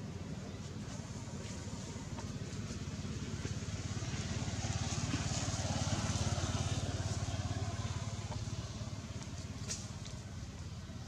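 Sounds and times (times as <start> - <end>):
engine pulsing rumble: 0.0 - 11.0.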